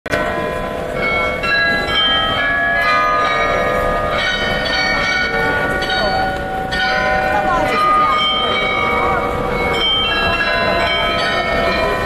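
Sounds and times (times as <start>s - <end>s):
carillon bells playing a tune: 0.1s - 12.0s
low hum of crowd: 0.1s - 12.0s.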